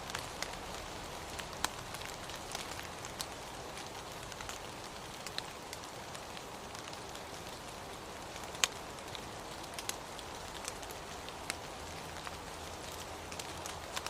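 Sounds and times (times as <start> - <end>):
rain hiss: 0.0 - 14.0.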